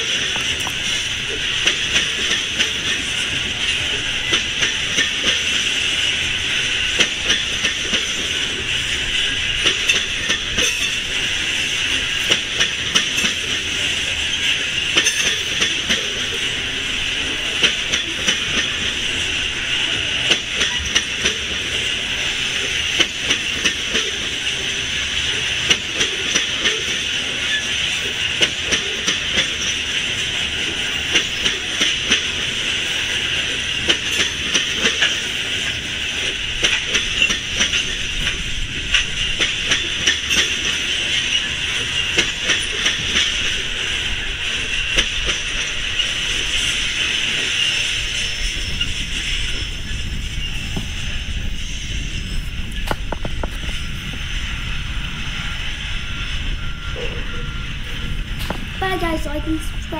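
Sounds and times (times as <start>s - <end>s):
train wheels clicking over rails: 0.0s - 59.9s.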